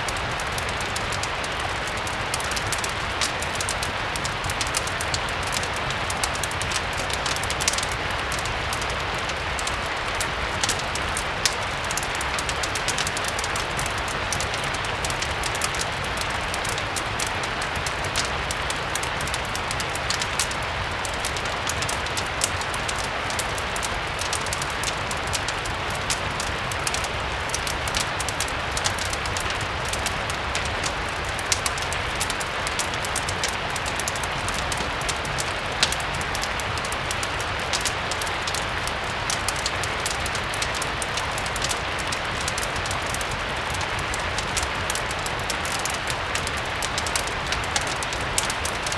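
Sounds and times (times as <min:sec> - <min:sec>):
crackling fireplace: 0:00.0 - 0:48.9
steady rain: 0:00.0 - 0:48.9.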